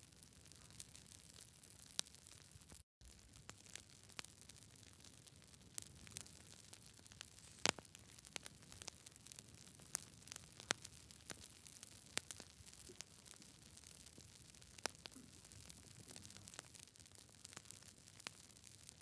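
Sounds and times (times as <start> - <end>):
campfire pops: 3.0 - 19.0
soft steady hiss: 3.0 - 19.0.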